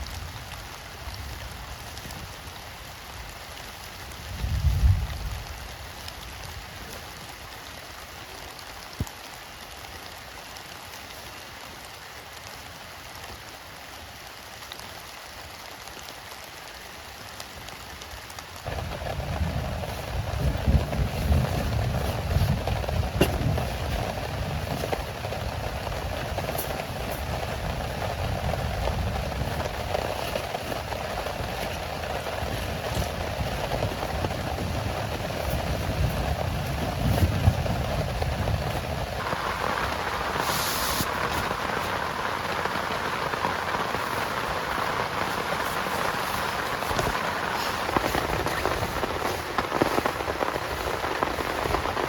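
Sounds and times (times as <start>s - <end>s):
heavy rain hiss: 0.0s - 52.0s.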